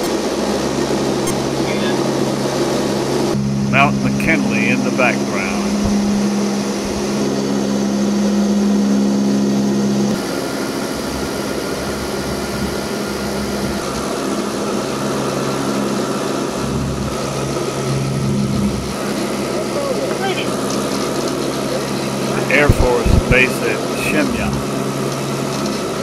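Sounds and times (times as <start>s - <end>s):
propeller engines droning in cabin: 0.0s - 26.0s
strong low hum: 0.6s - 10.2s, 11.0s - 26.0s.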